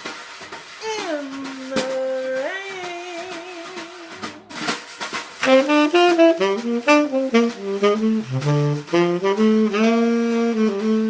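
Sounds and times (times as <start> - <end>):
swing jazz band: 0.0 - 11.0
saxophone run: 1.1 - 11.0.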